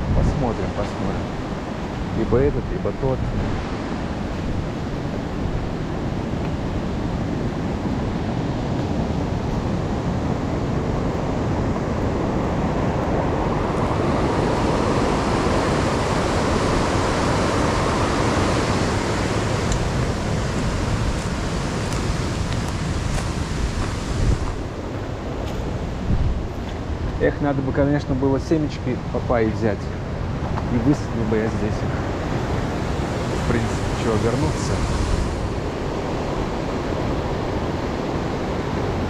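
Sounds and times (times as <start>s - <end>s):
river water rushing: 2.8s - 27.2s, 29.9s - 39.0s.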